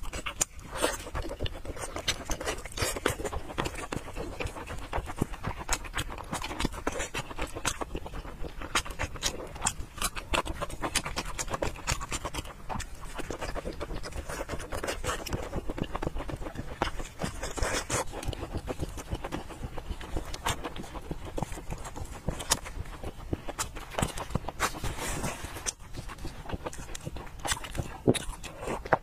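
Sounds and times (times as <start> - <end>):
sticky mouth clicks: 0.0 - 29.0
wet chewing and lip-smacking: 0.0 - 29.0.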